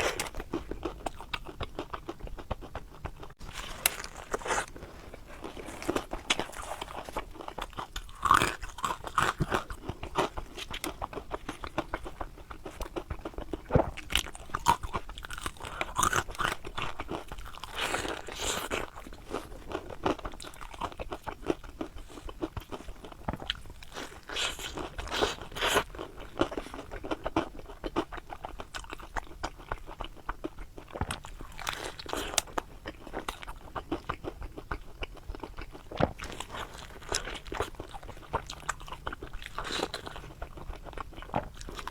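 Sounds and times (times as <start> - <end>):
crunching and chewing fried food: 0.0 - 41.9.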